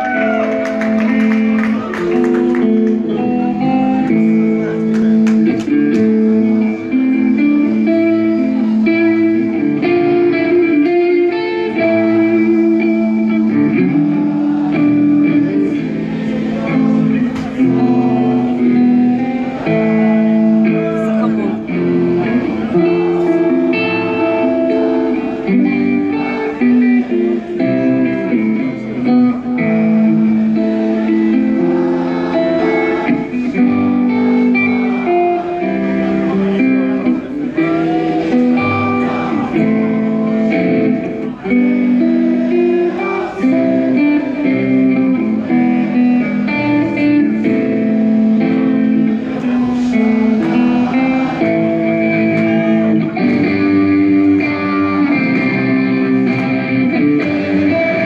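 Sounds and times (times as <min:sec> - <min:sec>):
electric guitar through amplifier: 0:00.0 - 0:58.0.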